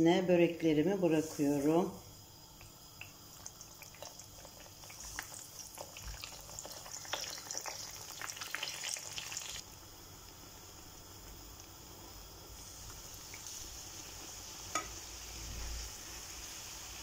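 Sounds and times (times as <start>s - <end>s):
pastries frying in oil: 0.7s - 17.0s.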